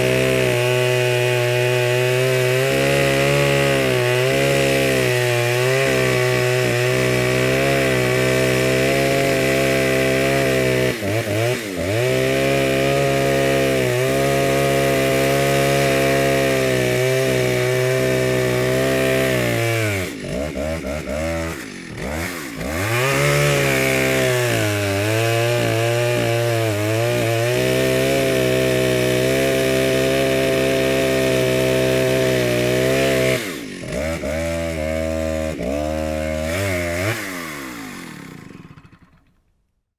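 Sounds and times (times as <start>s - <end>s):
chainsaw running at high speed: 0.0s - 39.5s.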